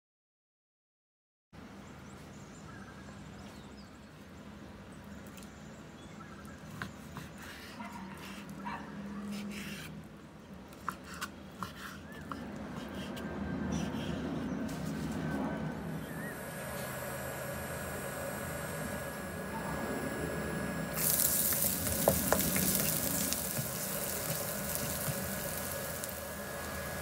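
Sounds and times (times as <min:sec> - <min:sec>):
steady low hum: 0:01.6 - 0:27.0.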